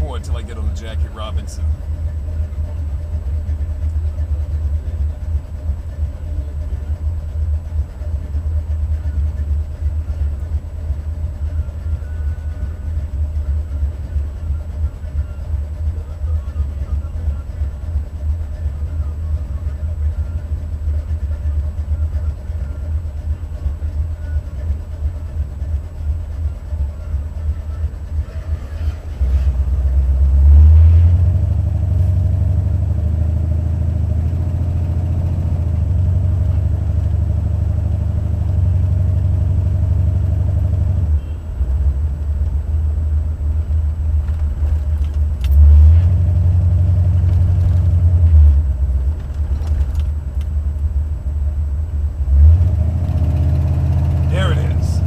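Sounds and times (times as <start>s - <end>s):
deep engine and exhaust rumble: 0.0s - 55.0s.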